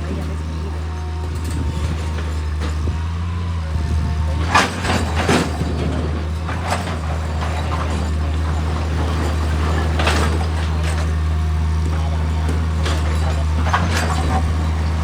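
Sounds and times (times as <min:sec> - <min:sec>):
heavy engine droning: 0:00.0 - 0:15.0.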